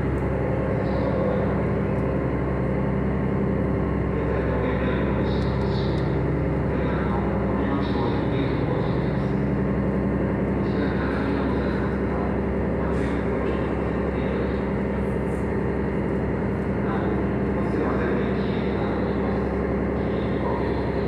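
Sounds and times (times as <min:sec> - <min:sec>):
ship engines droning: 0:00.0 - 0:21.0.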